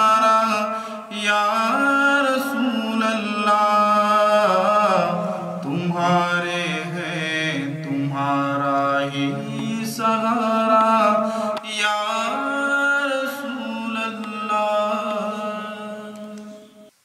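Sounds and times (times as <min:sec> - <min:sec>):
devotional chant-like singing: 0:00.0 - 0:17.0.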